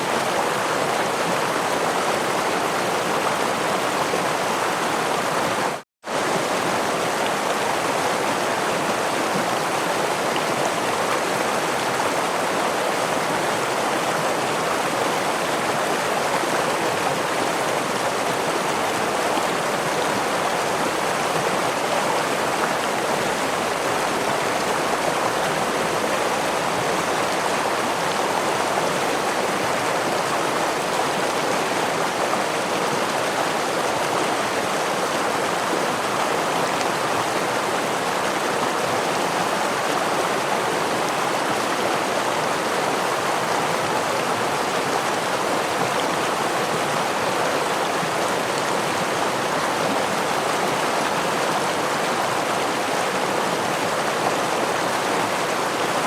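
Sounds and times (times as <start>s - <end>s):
stream splashing over waterfall: 0.0s - 56.0s.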